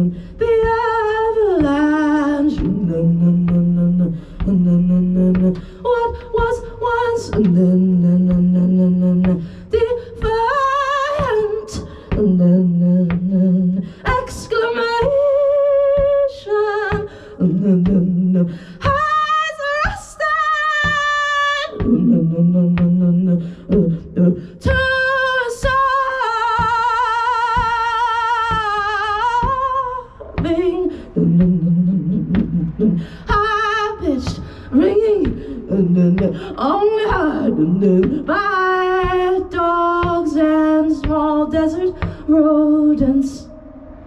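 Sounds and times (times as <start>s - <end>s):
woman singing wordlessly: 0.0s - 43.6s.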